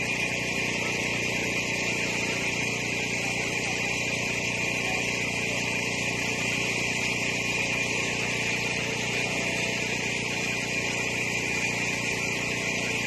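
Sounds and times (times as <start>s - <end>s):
steady engine noise: 0.0s - 13.0s.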